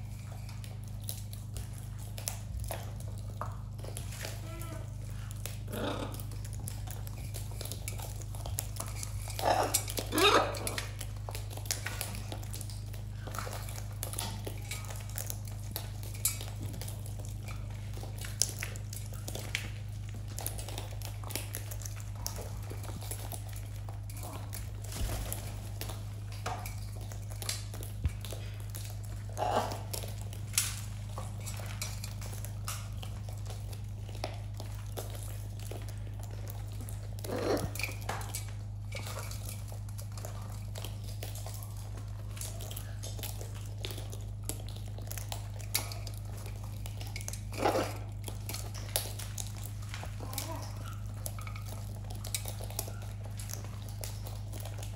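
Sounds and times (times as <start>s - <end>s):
husks crunching: 0.0s - 54.9s
steady low hum: 0.0s - 54.9s.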